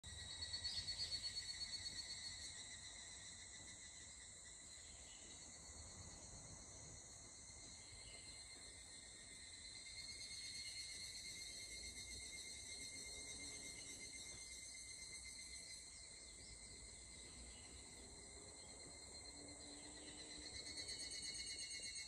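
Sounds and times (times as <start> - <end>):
insects trilling: 0.1 - 22.0.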